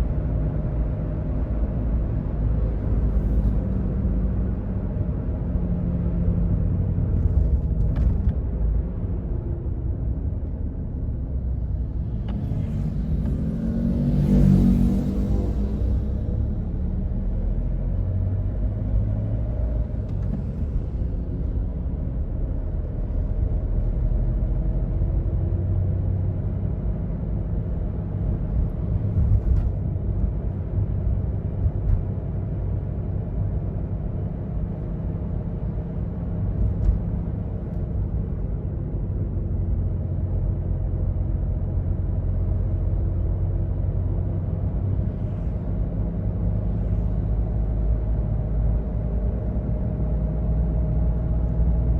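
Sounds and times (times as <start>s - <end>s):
car engine drone and tyre rumble: 0.0s - 51.9s.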